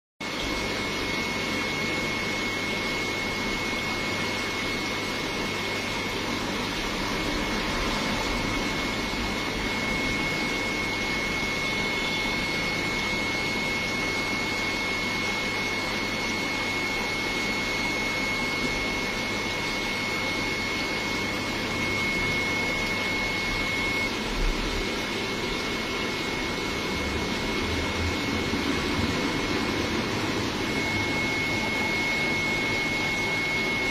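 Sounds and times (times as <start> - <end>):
aquarium air pump and filter hum: 0.2 - 33.9
thin high whine: 0.2 - 33.9.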